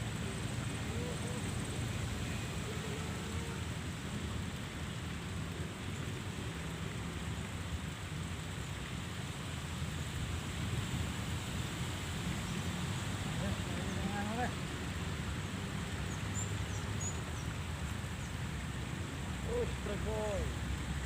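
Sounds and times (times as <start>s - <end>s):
rushing outdoor noise: 0.0s - 21.0s.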